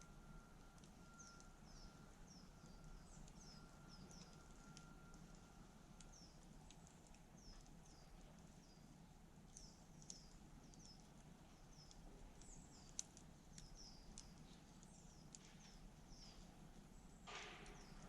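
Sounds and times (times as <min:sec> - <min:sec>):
campfire wood crackles: 0:00.0 - 0:18.0
small birds chirping: 0:00.0 - 0:18.0.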